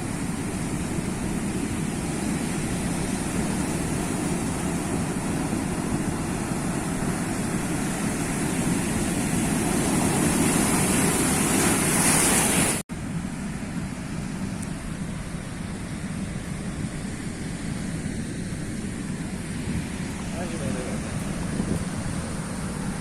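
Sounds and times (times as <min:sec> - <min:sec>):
sea waves washing in: 0:00.0 - 0:23.0.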